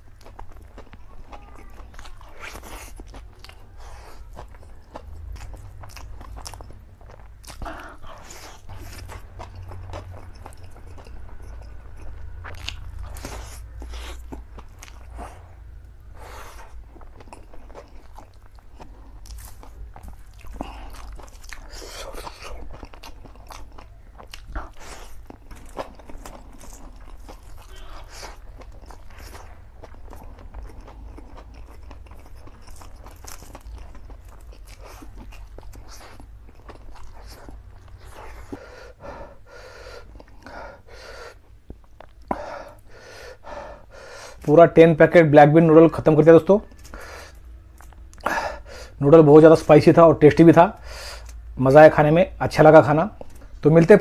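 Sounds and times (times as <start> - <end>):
person chewing and slurping: 0.0 - 44.4
steady low hum: 0.0 - 44.5.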